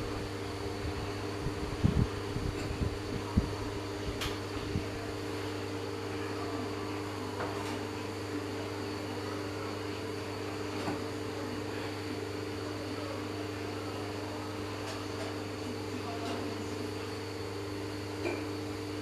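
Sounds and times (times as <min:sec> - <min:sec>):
electric fan motor humming: 0:00.0 - 0:19.0.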